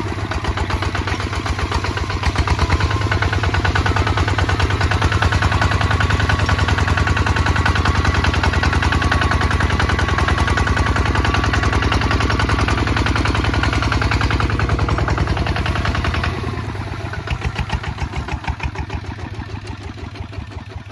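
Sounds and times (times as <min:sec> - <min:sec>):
diesel engine chugging: 0:00.0 - 0:20.9.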